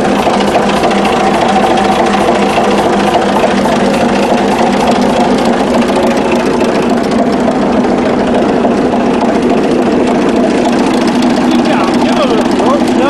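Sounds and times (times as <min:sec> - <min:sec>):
diesel engine running: 0:00.0 - 0:13.0
fast mechanical ticking: 0:00.0 - 0:13.0.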